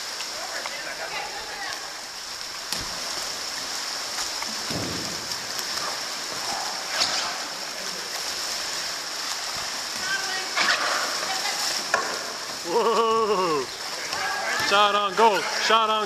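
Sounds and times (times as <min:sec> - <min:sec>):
kayak paddles splashing water: 0:00.0 - 0:16.0.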